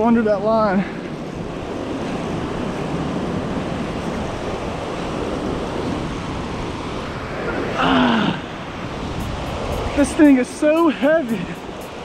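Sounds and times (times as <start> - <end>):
wind buffeting microphone: 0.0 - 7.8, 8.4 - 12.0
surf breaking on sand: 1.2 - 12.0.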